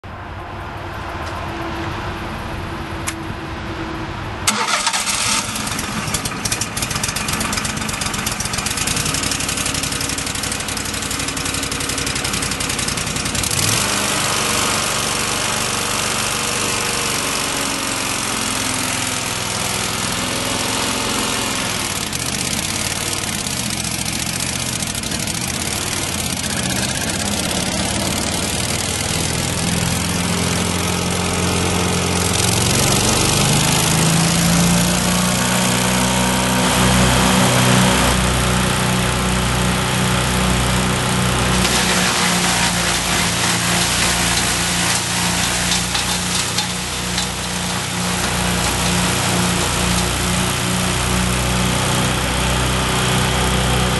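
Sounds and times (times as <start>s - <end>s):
brush chipper engine running: 4.4s - 53.9s.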